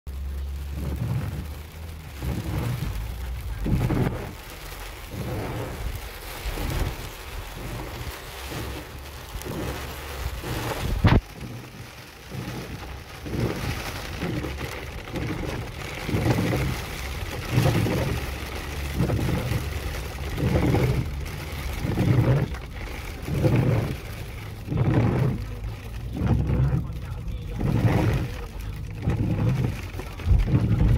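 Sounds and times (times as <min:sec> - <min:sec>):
rain and hail drumming on car roof: 0:00.1 - 0:30.9.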